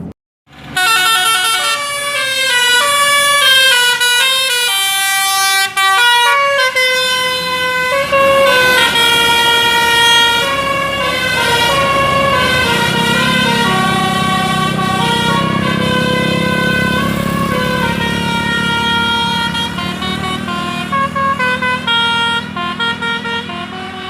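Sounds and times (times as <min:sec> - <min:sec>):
bus horn playing a tune: 0:00.6 - 0:24.0.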